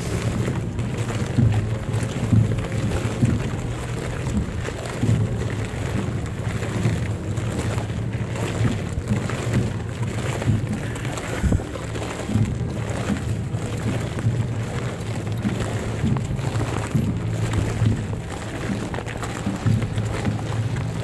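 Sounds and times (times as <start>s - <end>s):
soft low thumps: 0.0s - 21.0s
wind rumbling on microphone: 0.0s - 21.0s.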